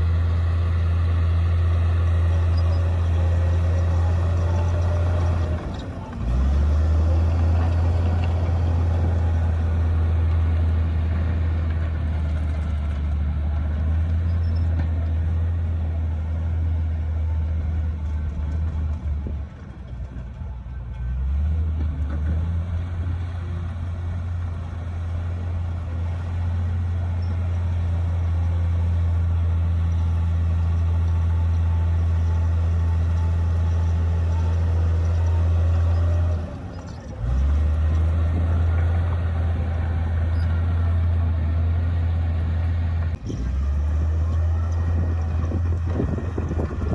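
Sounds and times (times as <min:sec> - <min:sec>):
bulldozer diesel engine droning: 0:00.0 - 0:46.9.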